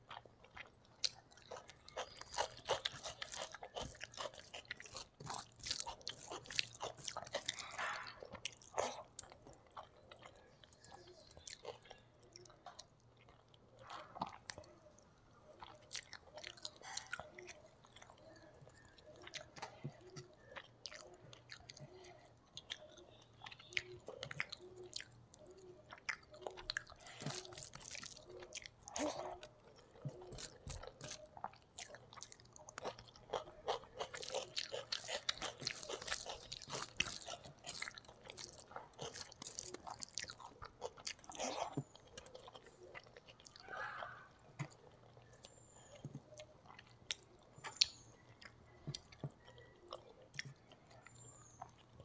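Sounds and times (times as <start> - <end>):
close chewing and wet mouth sounds: 0.0 - 52.0.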